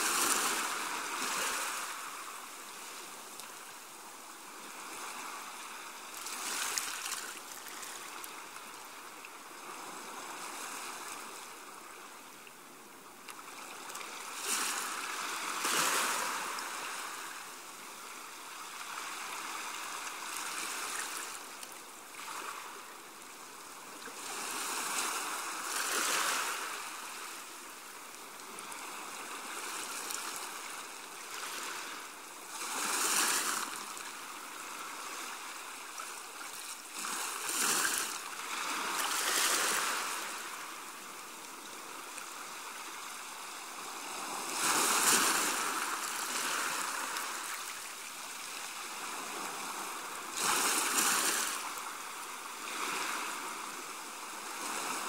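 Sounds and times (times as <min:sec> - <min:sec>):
small waves washing on sand: 0:00.0 - 0:55.0.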